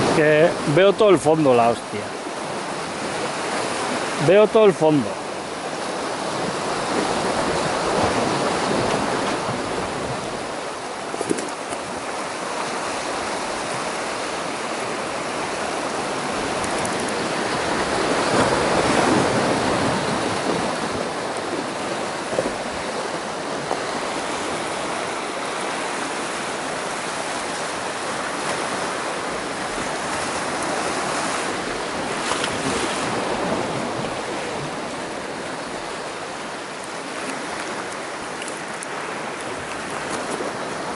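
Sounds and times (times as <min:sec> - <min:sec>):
surf washing against rocks: 0:00.0 - 0:40.9.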